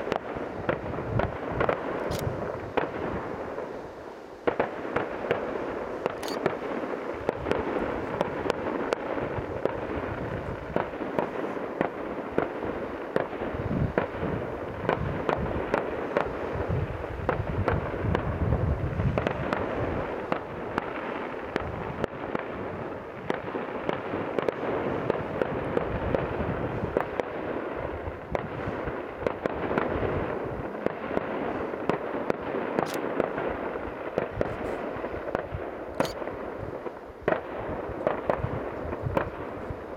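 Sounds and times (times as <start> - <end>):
deep firework bangs: 0.0 - 3.8, 4.4 - 39.9
fireworks pops and crackles: 0.0 - 39.9.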